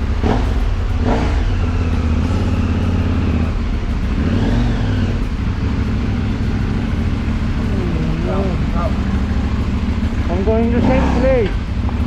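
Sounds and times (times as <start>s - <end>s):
vehicle engines rumbling in traffic: 0.0s - 12.0s.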